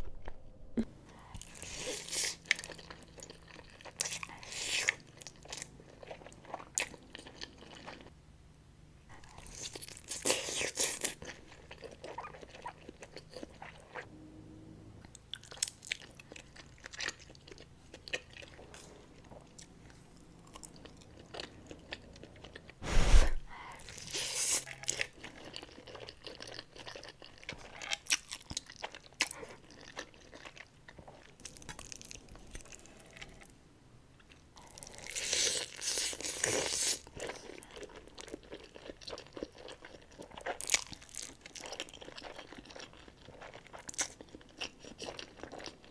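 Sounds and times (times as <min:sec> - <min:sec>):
chewing and crunching noodles: 0:01.2 - 0:08.1, 0:09.1 - 0:14.1, 0:15.0 - 0:22.8, 0:23.7 - 0:33.5, 0:34.2 - 0:45.9.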